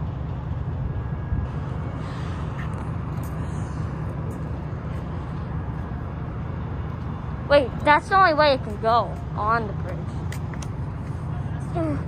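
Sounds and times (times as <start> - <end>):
urban background rumble: 0.0 - 12.0.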